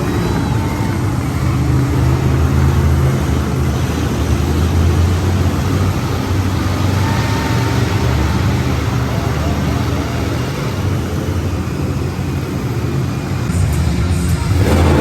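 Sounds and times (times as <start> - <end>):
truck engine droning loudly: 0.0 - 15.0.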